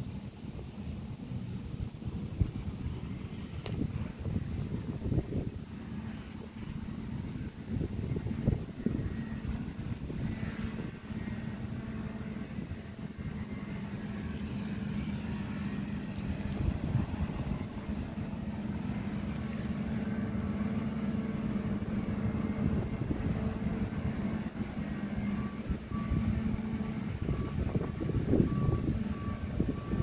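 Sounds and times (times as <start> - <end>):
tractor engine drone: 0.0 - 30.0.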